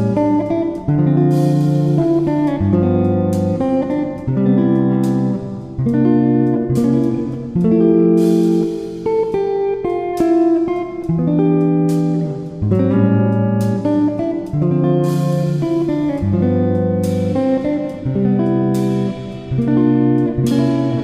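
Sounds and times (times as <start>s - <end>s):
strummed guitar chords: 0.0s - 21.0s.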